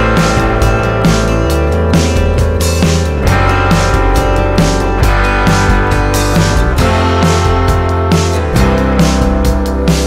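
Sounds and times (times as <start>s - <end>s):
guitar music with steady beat: 0.0s - 10.0s.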